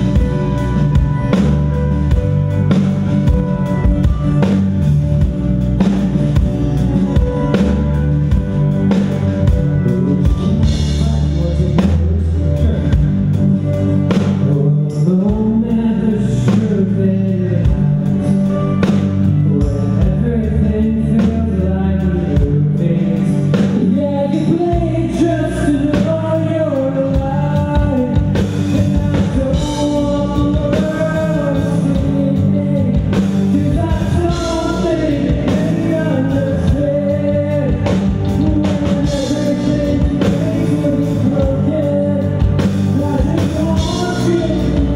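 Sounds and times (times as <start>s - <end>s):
live rock band: 0.0s - 44.9s
person singing: 0.0s - 44.9s.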